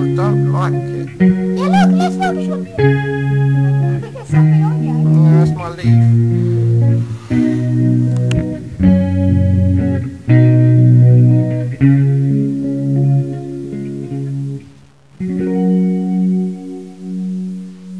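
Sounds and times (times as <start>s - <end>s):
background music with held chords: 0.0s - 17.9s.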